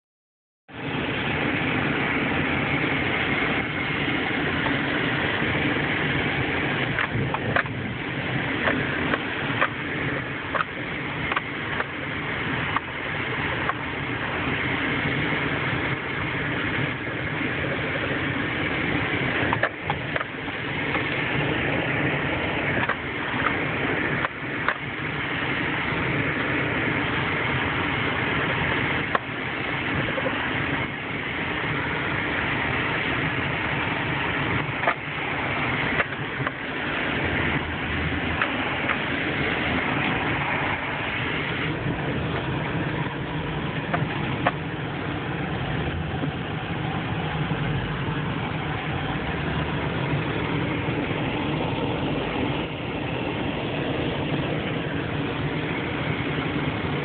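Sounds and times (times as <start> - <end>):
car engine running: 0.7 - 57.0
tyre and road noise: 0.7 - 57.0.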